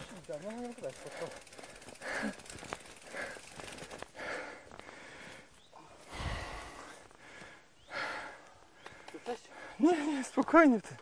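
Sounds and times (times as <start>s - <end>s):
person breathing heavily: 0.9s - 10.2s.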